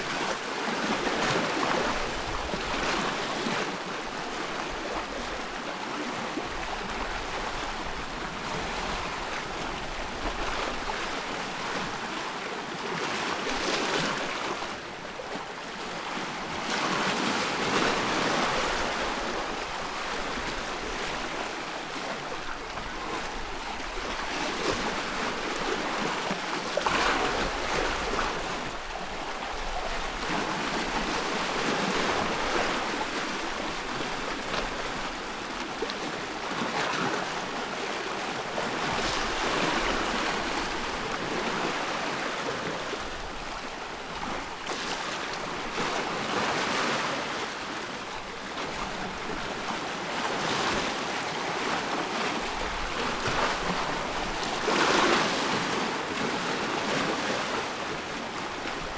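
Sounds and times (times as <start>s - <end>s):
sea waves breaking: 0.0s - 58.9s.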